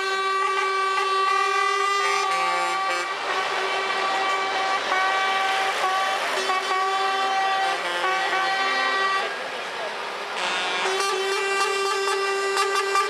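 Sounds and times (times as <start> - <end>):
truck air horns blaring: 0.0 - 9.5, 10.3 - 13.0.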